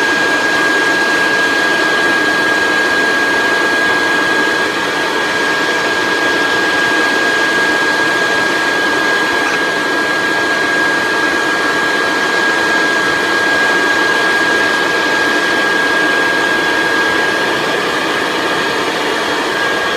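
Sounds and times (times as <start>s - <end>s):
leaf blower running: 0.0s - 19.9s.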